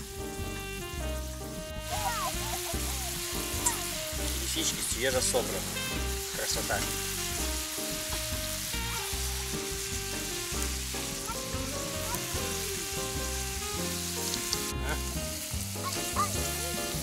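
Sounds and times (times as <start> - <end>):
mushrooms sizzling in oil: 0.0 - 17.0.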